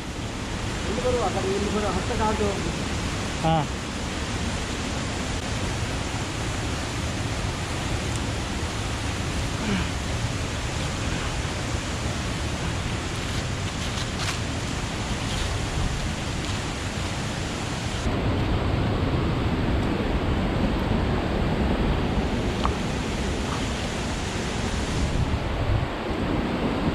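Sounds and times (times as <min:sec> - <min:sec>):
waterfall and river rushing: 0:00.0 - 0:26.9.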